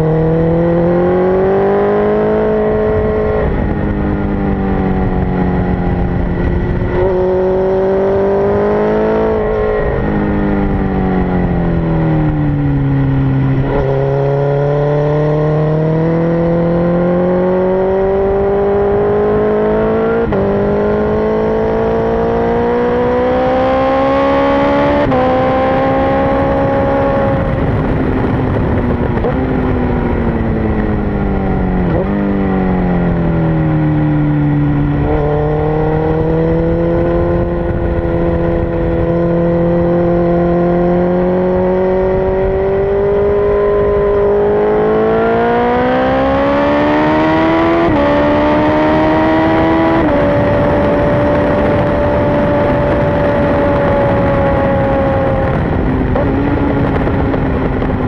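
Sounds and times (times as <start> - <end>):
motorcycle engine revving: 0.0 - 58.0
wind rushing: 0.0 - 58.0.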